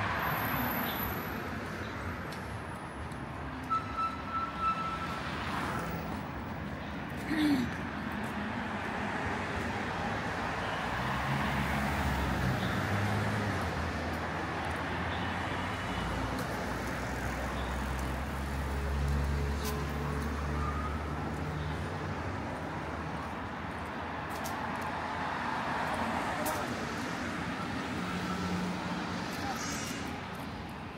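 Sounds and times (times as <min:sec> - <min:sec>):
passing traffic: 0:00.0 - 0:30.9.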